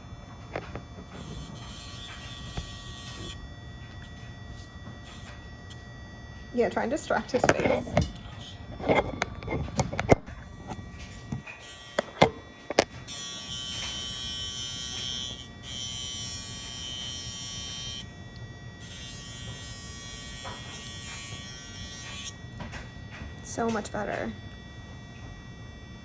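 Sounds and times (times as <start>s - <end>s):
nail grinder motor buzz: 0.0s - 26.0s
harsh high grinding on nail: 0.5s - 5.9s, 6.7s - 18.1s, 18.8s - 22.9s.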